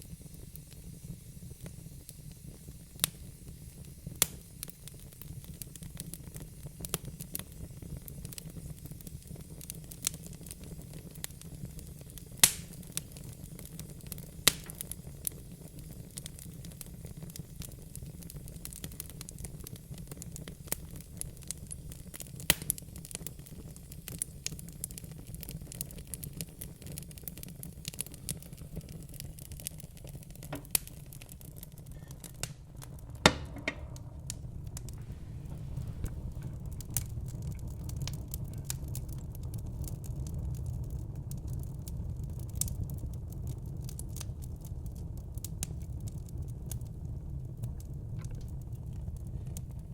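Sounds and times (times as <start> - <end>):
fire crackling and popping: 0.0 - 49.9
fire flames rumbling: 0.0 - 49.9.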